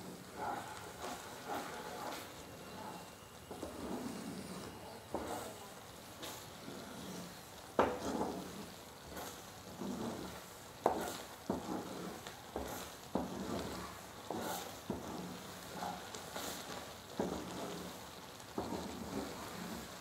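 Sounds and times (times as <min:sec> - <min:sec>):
spatula swishing through paste: 0:00.0 - 0:05.5, 0:06.2 - 0:18.0.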